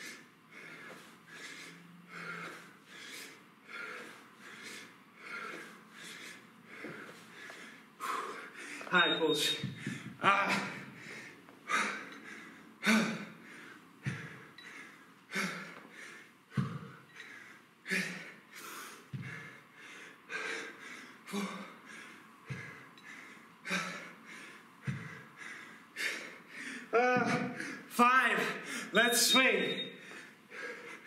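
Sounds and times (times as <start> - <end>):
man breathing hard: 0.0 - 29.0, 29.8 - 31.0.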